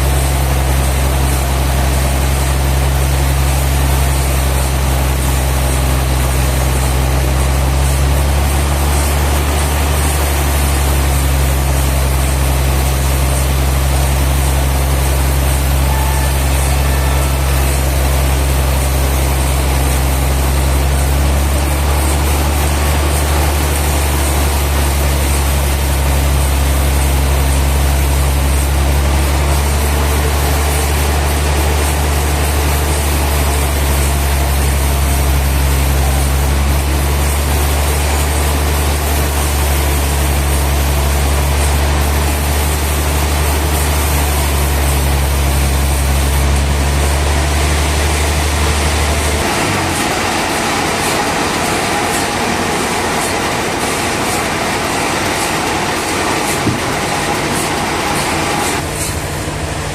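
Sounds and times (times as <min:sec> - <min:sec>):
sawmill machinery engine hum: 0:00.0 - 0:59.9.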